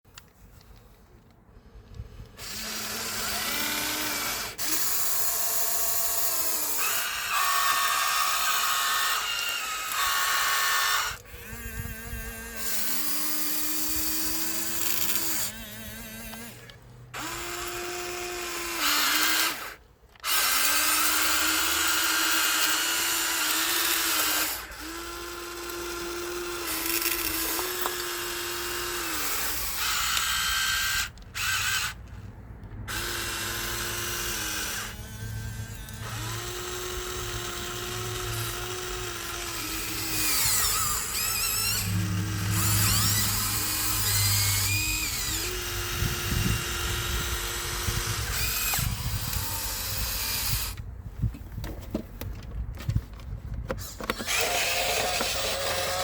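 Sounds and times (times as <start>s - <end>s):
small electric motors whining: 0.1s - 50.9s, 53.8s - 56.0s.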